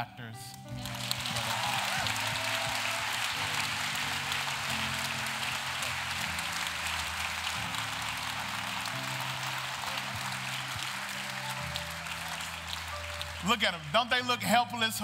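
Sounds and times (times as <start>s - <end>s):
soft music of low held chords: 0.0s - 15.0s
congregation applauding: 0.7s - 15.0s.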